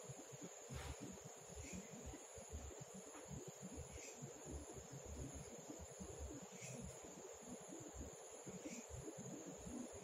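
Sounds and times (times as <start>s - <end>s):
crickets droning: 0.0s - 10.0s.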